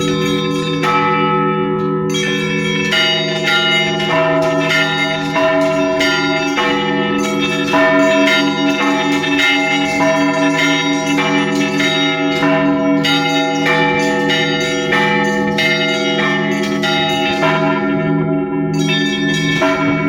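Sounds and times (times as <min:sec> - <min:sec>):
deep hum of large bells: 0:00.0 - 0:20.0
rapid strikes of small bells: 0:00.0 - 0:20.0.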